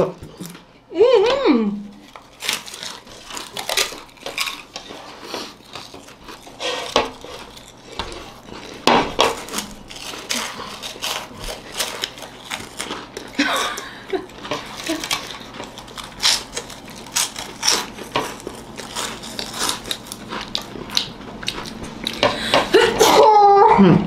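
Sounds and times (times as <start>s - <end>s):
crunching crisp chips: 1.9s - 23.3s.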